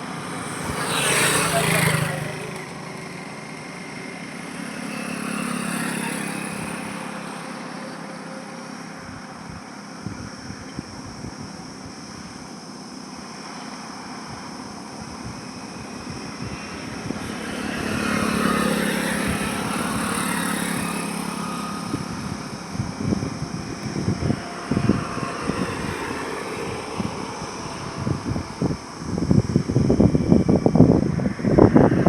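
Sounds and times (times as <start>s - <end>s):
vehicle passing close by: 0.0s - 10.3s, 13.3s - 32.0s
wind buffeting microphone: 0.0s - 32.0s.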